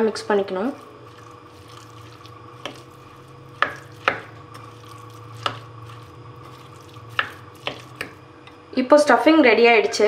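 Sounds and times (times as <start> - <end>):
spoon mixing in a bowl: 0.2 - 8.6.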